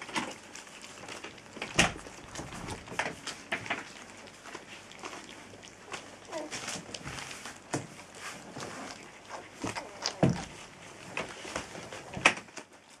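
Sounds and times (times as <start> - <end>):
puppies chewing wetly: 0.0 - 13.0.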